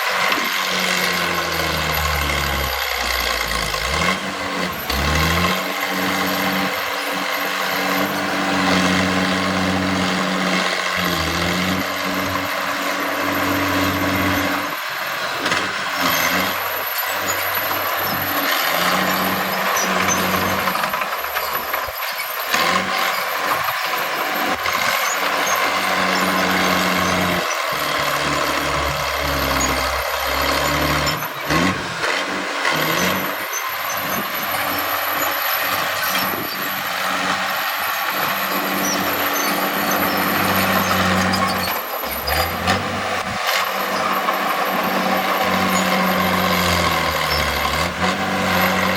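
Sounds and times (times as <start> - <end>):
heavy diesel engine revving: 0.0 - 48.9.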